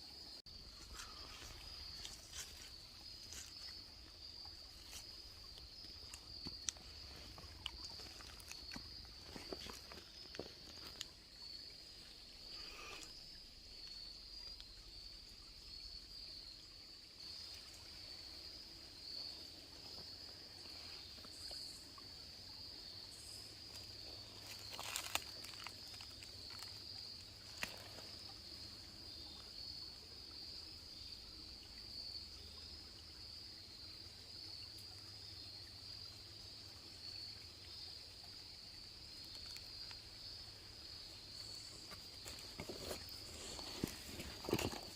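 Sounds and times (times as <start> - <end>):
high-pitched insect chorus: 0.0 - 44.9
woodland background noise: 0.0 - 44.9.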